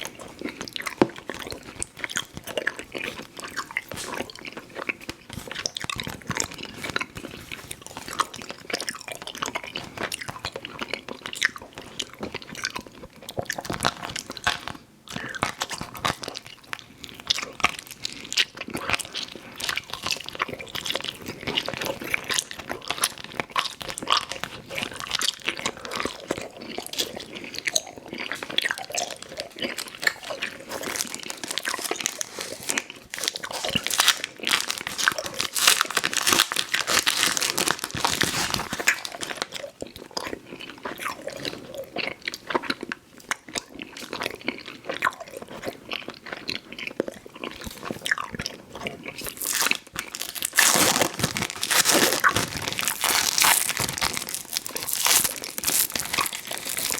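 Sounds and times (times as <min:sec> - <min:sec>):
chewing sticky candy: 0:00.0 - 0:56.9.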